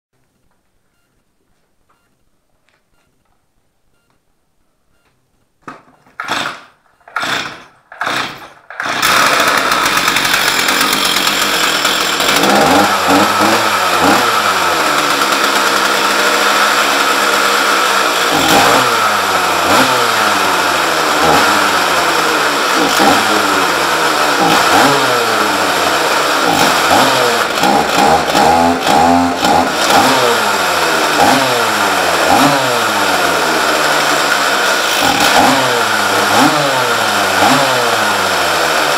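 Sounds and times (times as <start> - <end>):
chainsaw starter cord pulls: 6.0 - 38.9
chainsaw engine revving: 6.2 - 38.9.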